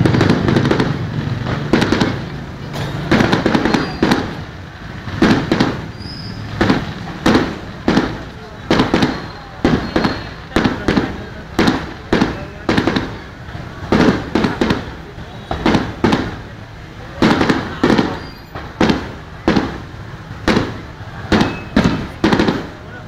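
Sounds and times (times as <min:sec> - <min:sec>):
fireworks bursting with bangs: 0:00.0 - 0:23.0.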